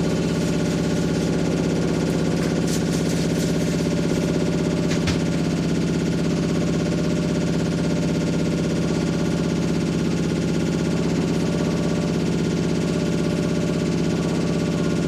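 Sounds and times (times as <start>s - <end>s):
washing machine droning and rattling: 0.0s - 15.0s.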